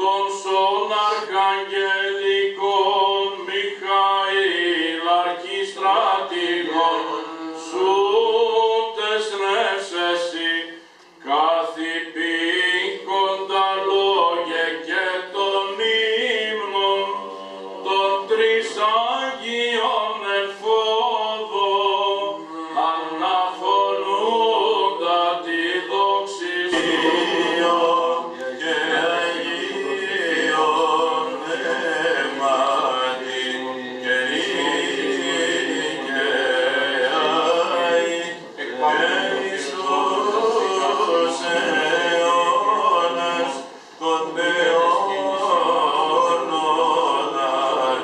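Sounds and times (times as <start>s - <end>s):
man chanting unaccompanied: 0.0s - 48.0s.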